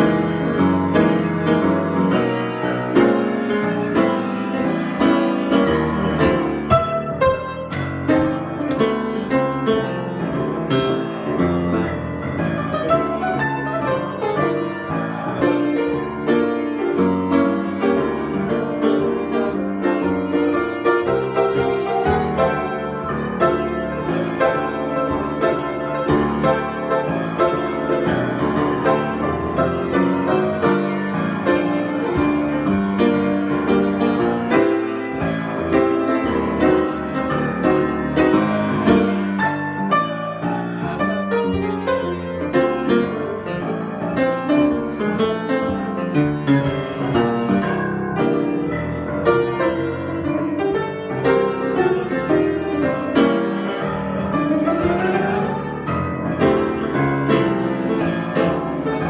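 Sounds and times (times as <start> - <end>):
solo piano: 0.0 - 59.0.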